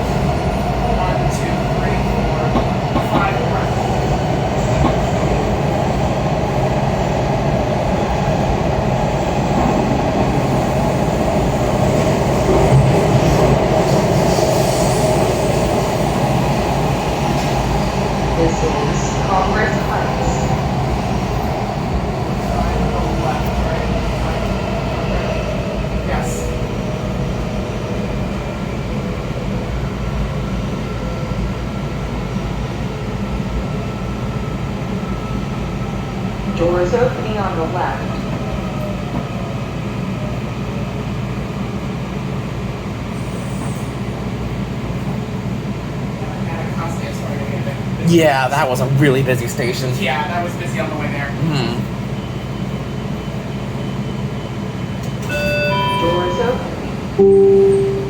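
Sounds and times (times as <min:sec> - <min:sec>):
train wheels rumbling on track: 0:00.0 - 0:55.3
railcar running noise: 0:00.0 - 0:58.0.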